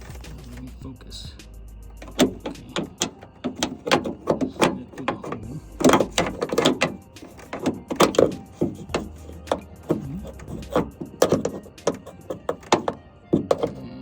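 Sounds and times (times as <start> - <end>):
hand tools clicking on metal: 1.9 - 13.8.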